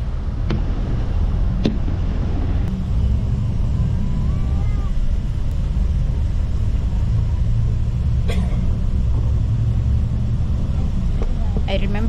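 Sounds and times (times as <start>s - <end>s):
bus engine rumble from inside: 0.0s - 12.0s.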